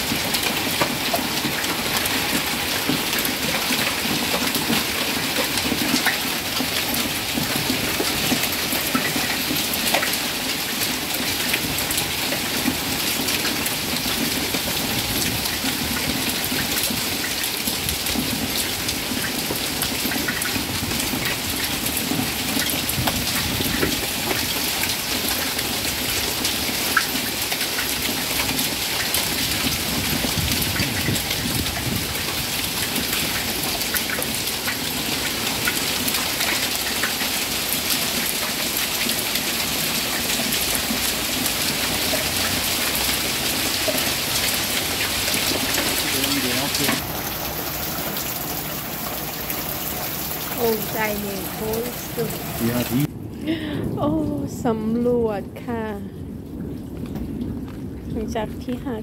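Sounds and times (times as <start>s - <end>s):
hailstones ticking: 0.0s - 55.7s, 56.3s - 59.0s
hail and rain pelting: 0.0s - 59.0s.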